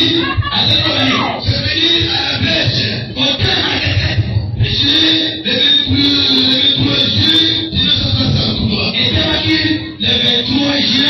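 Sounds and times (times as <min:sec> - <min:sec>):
worship music over loudspeakers: 0:00.0 - 0:11.0.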